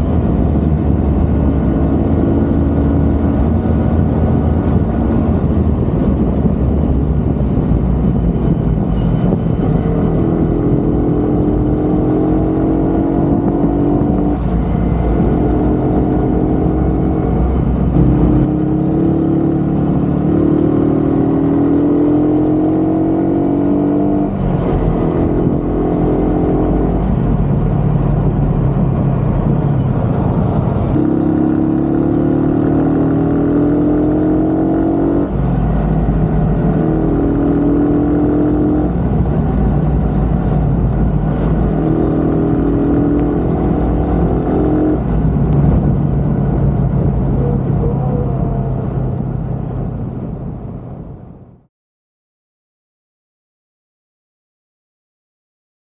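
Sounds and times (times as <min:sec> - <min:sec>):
vehicle engine accelerating: 0:00.0 - 0:51.7.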